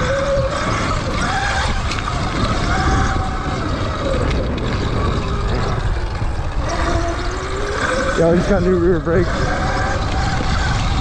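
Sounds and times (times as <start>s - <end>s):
motorbike engine: 0.0s - 11.0s
wind rumble on microphone: 0.0s - 11.0s.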